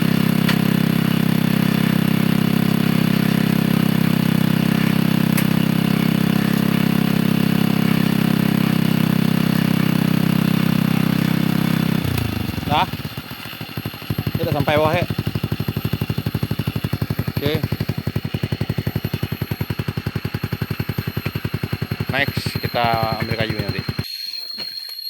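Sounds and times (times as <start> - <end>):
small engine running steadily: 0.0 - 24.1.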